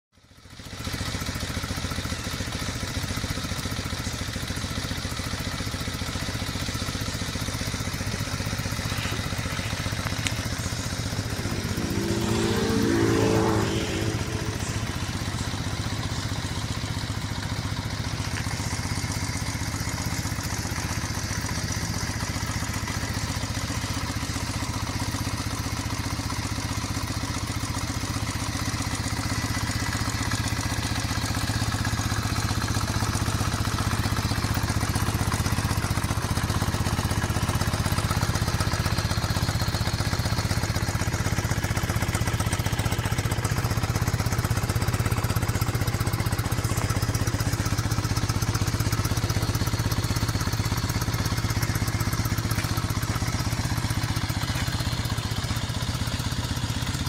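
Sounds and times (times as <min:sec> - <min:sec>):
motorcycle engine idling: 0:00.2 - 0:57.0.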